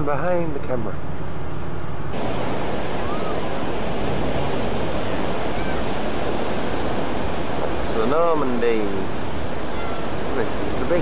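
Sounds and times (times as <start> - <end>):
wind on microphone: 1.0 - 11.0
surf: 2.1 - 11.0.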